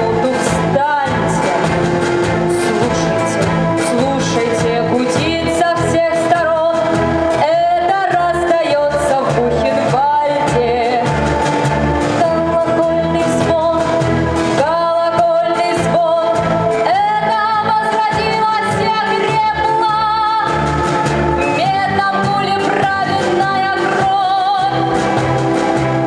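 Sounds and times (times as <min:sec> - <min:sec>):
woman singing into microphone: 0:00.0 - 0:11.2, 0:12.1 - 0:25.4
music with steady bass beat: 0:00.0 - 0:26.0.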